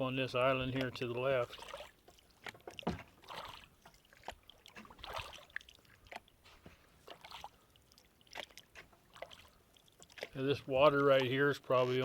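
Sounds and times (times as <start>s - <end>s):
kayak paddle splashes: 0.0s - 12.0s
water dripping: 0.5s - 6.4s, 7.0s - 12.0s.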